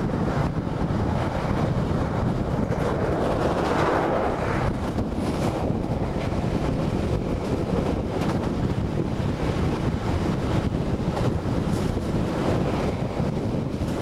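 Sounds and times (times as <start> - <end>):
train carriage rumbling on rails: 0.0 - 14.0
wind buffeting microphone: 0.0 - 14.0.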